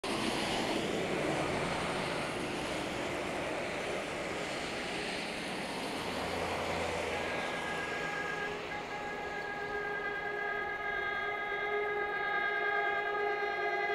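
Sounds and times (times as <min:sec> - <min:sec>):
tyre noise of passing cars: 0:00.0 - 0:13.9
low hum: 0:00.2 - 0:13.9.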